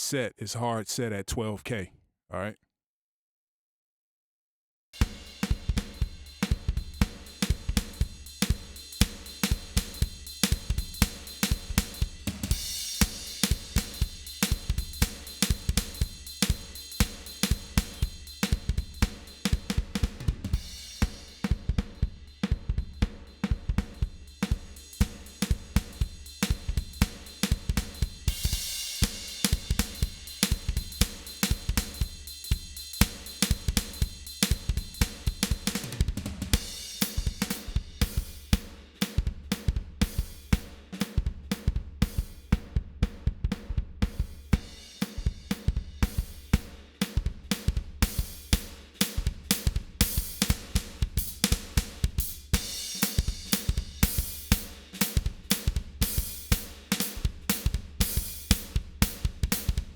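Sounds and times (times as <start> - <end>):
drum kit groove: 5.0 - 59.9.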